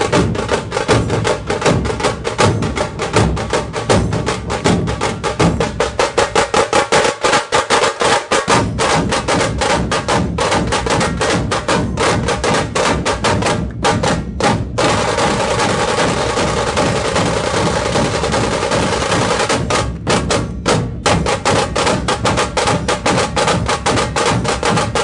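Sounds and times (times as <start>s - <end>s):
drum ensemble drumming: 0.0s - 25.0s.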